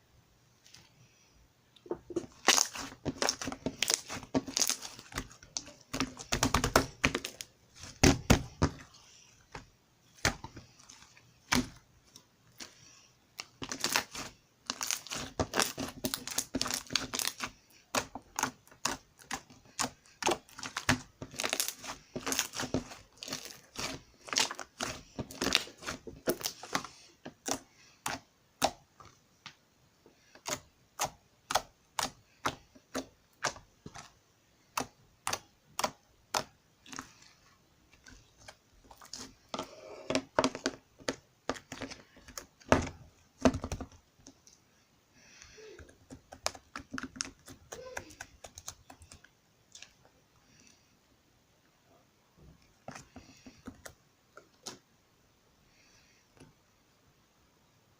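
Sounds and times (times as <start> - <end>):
hands squishing slime: 2.1 - 44.6, 45.3 - 50.0.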